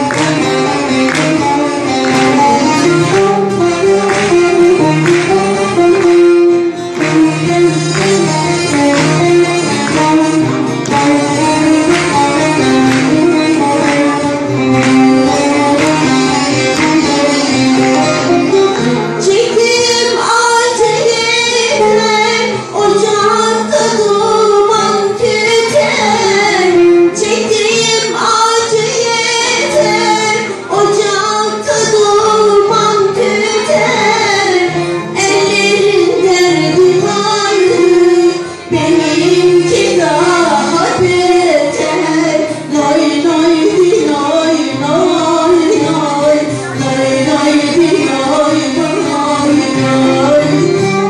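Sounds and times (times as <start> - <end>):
plucked lutes: 0.0 - 51.0
woman singing folk song: 0.0 - 51.0.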